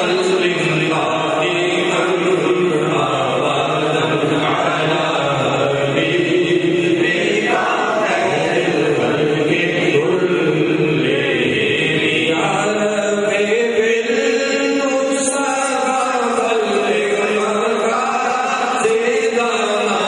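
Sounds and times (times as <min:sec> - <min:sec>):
men chanting into microphones: 0:00.0 - 0:20.0.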